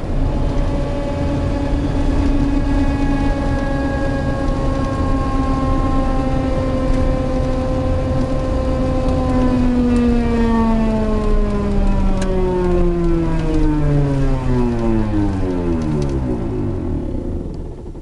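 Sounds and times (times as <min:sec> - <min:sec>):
low road rumble: 0:00.0 - 0:18.0
vehicle mechanical whine: 0:00.0 - 0:18.0.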